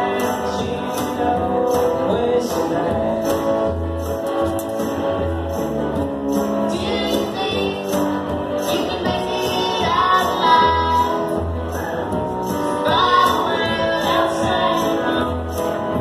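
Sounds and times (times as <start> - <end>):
bass line: 0.0 - 16.0
guitar: 0.0 - 16.0.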